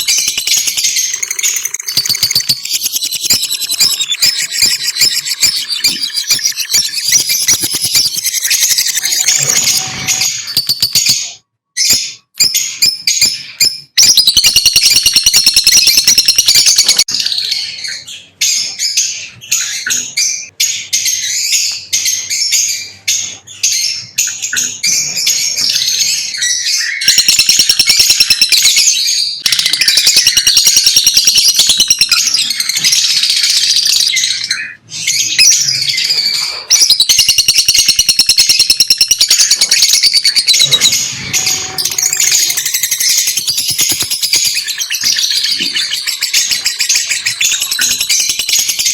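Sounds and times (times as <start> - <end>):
lovebirds chirping: 0.0 - 48.9.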